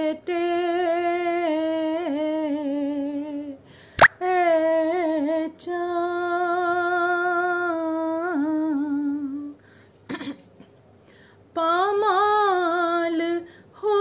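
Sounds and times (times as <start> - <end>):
woman singing unaccompanied: 0.0 - 3.6, 4.2 - 9.6, 11.6 - 14.0.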